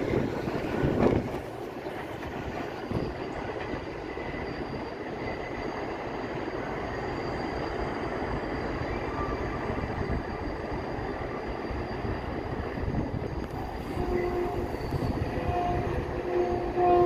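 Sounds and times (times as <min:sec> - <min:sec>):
train rumbling on elevated rails: 0:00.0 - 0:17.0
high wheel squeal: 0:02.2 - 0:17.0.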